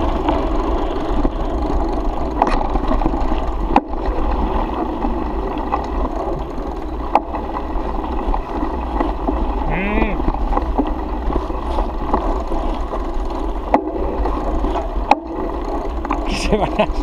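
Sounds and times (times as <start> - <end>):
bike rattling: 0.0 - 17.0
tyres on loose dirt: 0.0 - 17.0
wind rumbling on microphone: 0.0 - 17.0.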